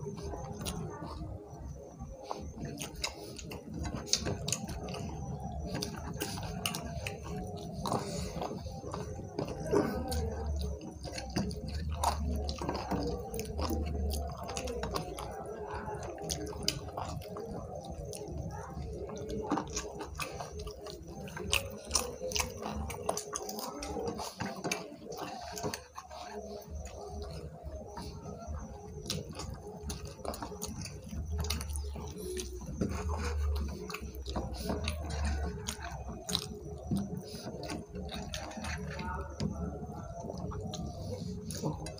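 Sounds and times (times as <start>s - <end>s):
chewing and mouth sounds: 0.0s - 41.9s
fingers mixing rice on plates: 0.0s - 41.9s.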